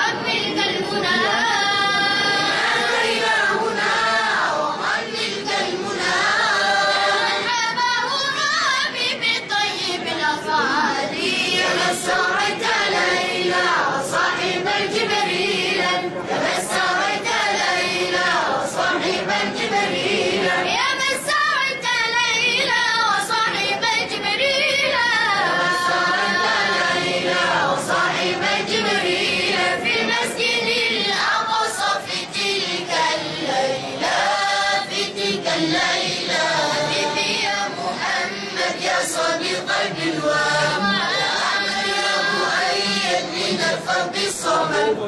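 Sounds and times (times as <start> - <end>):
children's choir singing: 0.0 - 45.0.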